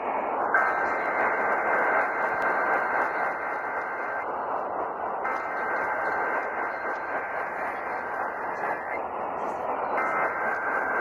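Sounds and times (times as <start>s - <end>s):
radio static hissing: 0.0s - 11.0s
faint steady whistle: 0.2s - 11.0s.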